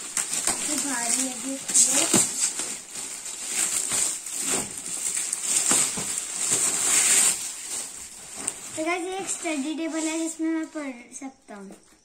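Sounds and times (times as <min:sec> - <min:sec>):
gift wrap tearing and crinkling: 0:00.0 - 0:10.3
plastic sheeting rustling: 0:00.0 - 0:11.0.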